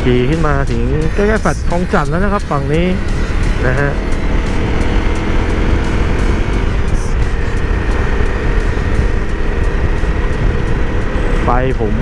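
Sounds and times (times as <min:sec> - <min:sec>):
low rumble of riding noise: 0:00.0 - 0:12.0
motorcycle engine running: 0:00.0 - 0:12.0.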